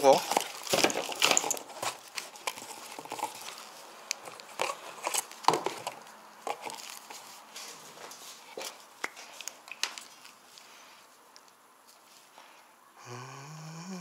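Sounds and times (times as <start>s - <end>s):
gloved hands rustling cables: 0.0s - 12.6s.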